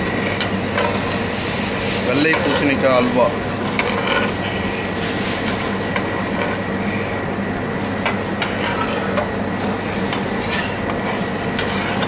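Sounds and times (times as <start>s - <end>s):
rushing kitchen noise: 0.0s - 12.0s.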